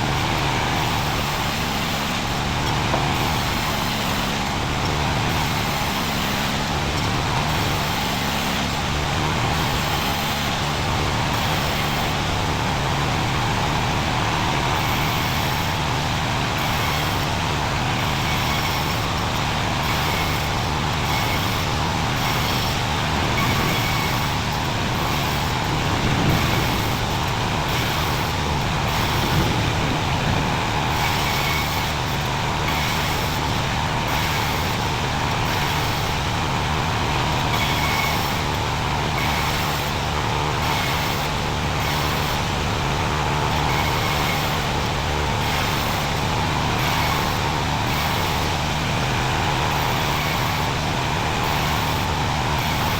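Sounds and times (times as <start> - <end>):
sawmill machinery droning: 0.0 - 52.9.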